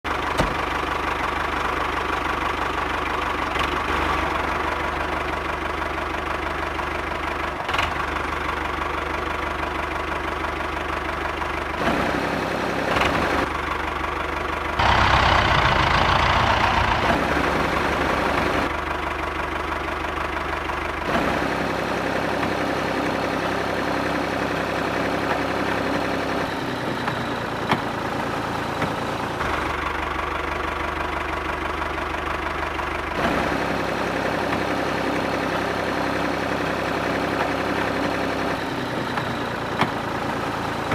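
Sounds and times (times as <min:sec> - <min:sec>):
engine-like running sound: 0:00.0 - 0:40.9.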